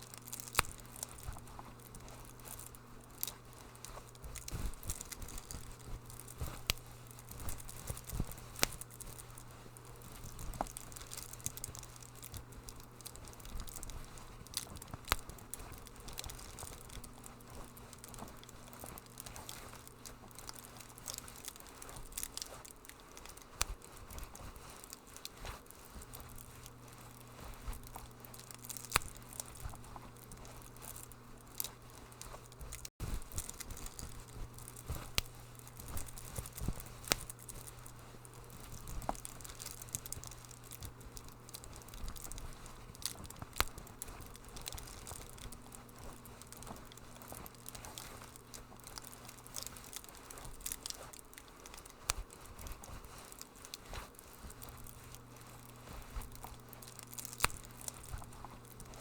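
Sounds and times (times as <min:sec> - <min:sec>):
steady low hum: 0:00.0 - 0:59.0
wood fire crackling: 0:00.0 - 0:59.0.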